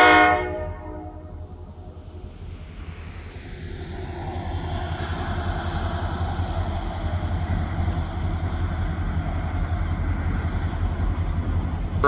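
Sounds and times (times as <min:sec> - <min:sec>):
large engine rumbling: 0:00.6 - 0:12.0.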